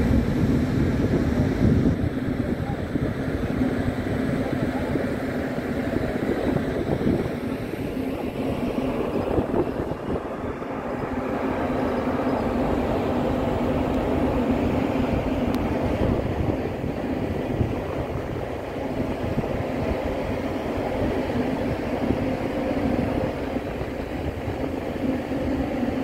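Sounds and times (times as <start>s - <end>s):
ferry engine rumble: 0.0s - 26.0s
wind on microphone: 0.0s - 26.0s.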